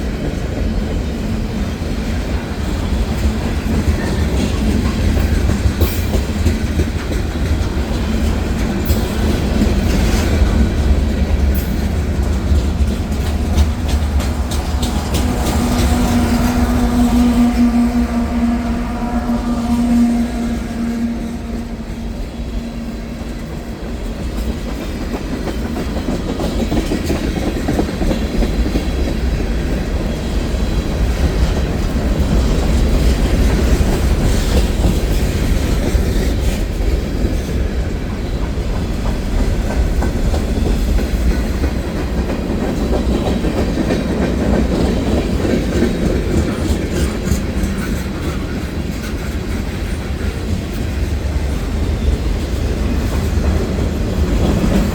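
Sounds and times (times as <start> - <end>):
freight train wheels rumbling on rail: 0.0 - 54.9.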